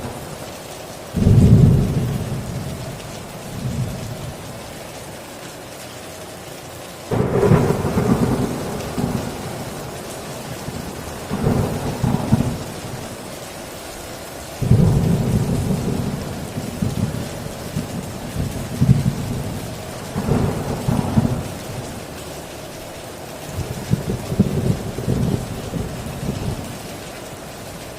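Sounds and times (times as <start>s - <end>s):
heavy steady rain: 0.0s - 27.9s
thunder rumbling: 1.1s - 4.7s, 7.1s - 13.4s, 14.6s - 27.9s.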